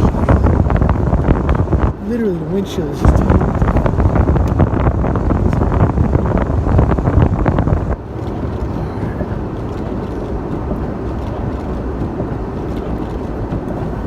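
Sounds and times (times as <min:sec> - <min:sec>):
vehicle rumble driving through snow: 0:00.0 - 0:14.0.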